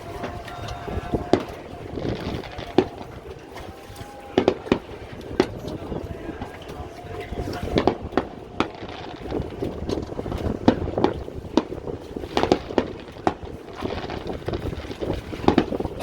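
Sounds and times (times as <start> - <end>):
fireworks bangs and pops: 0.0 - 16.0
wind rumble on microphone: 0.0 - 16.0.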